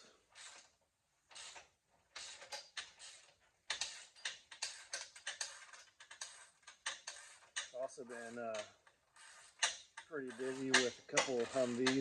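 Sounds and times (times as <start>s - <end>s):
ratchet wrench clicking: 1.3s - 7.8s, 8.5s - 12.0s.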